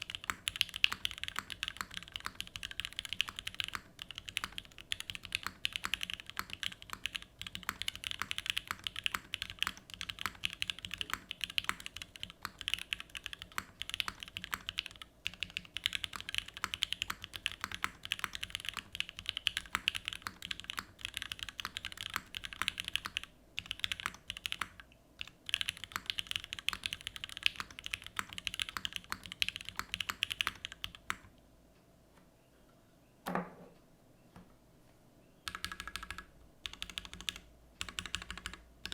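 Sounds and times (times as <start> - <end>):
fast typing on mechanical keyboard: 0.0 - 31.3, 35.5 - 38.9.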